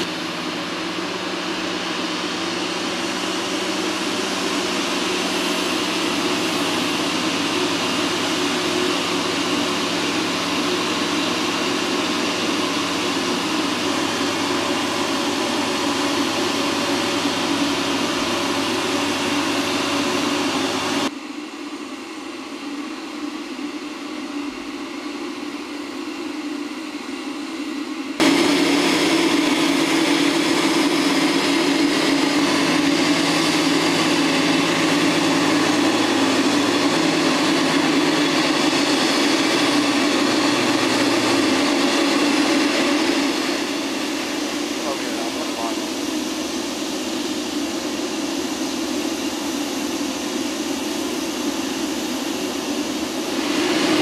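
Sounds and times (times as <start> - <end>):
heavy machinery drone: 0.0 - 21.1, 21.8 - 54.0.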